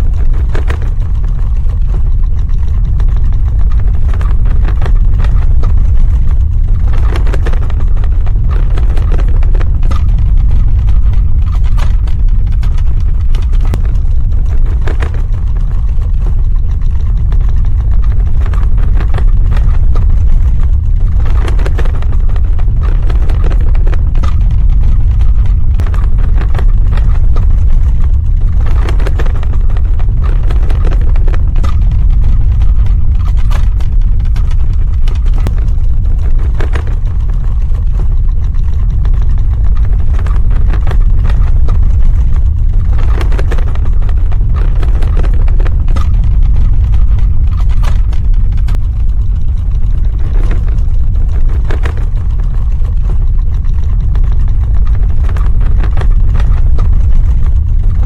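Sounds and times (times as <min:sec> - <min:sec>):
cracks and rattles: 0:00.0 - 0:58.0
deep ground rumble: 0:00.0 - 0:58.0.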